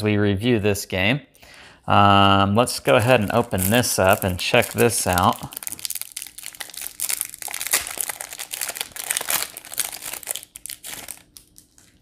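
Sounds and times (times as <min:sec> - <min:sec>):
plastic wrapping crinkling: 0:02.2 - 0:12.0.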